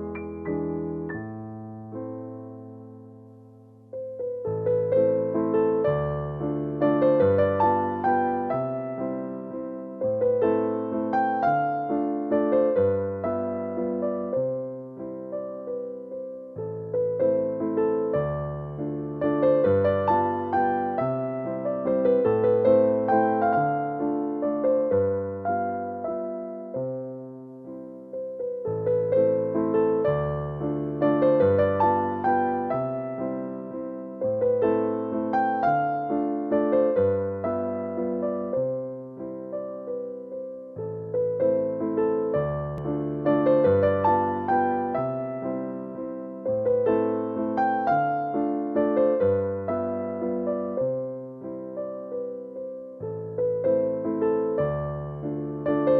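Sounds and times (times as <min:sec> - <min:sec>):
gentle electric piano: 0:00.0 - 0:55.9.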